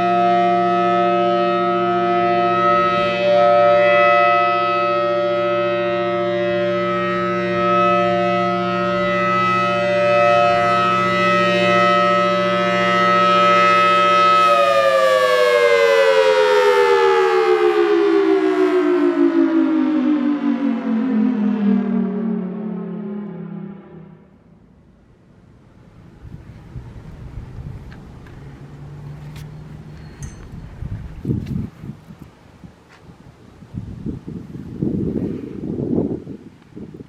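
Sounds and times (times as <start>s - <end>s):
warning siren tone: 0.0s - 31.8s.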